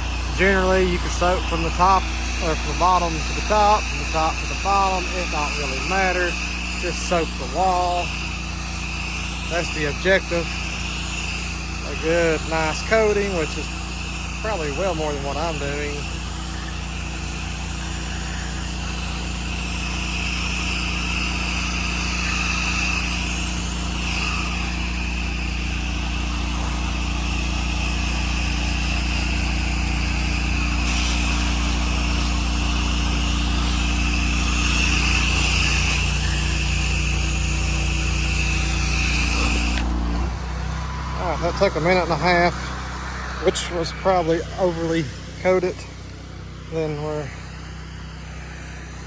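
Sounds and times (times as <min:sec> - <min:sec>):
pressure washer engine running: 0:00.0 - 0:49.0
spray hissing: 0:00.0 - 0:49.0.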